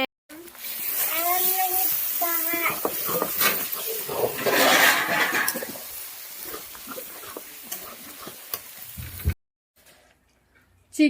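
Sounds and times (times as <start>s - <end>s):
meat sizzling in a pot: 0.3s - 9.4s.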